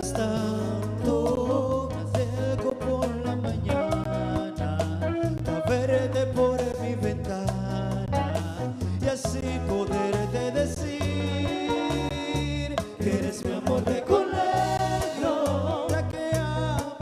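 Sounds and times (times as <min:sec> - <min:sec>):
live bachata band playing: 0:00.0 - 0:17.0
person singing: 0:00.0 - 0:17.0.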